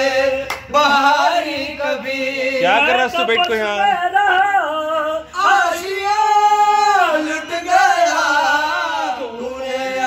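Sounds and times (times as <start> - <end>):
voices singing into microphone: 0.0 - 10.0.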